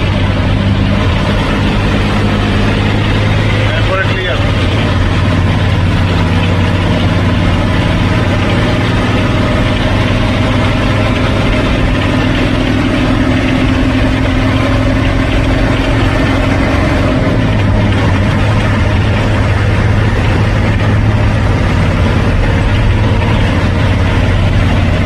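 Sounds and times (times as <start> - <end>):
diesel engine running: 0.0 - 25.0
higher engine tone: 0.0 - 25.0
road noise: 0.0 - 25.0.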